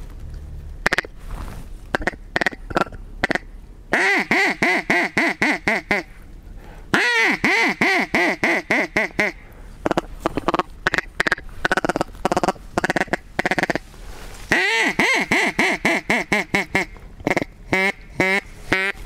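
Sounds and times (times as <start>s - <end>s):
duck call quacking: 0.8s - 1.1s, 1.9s - 6.2s, 6.9s - 13.9s, 14.5s - 19.0s.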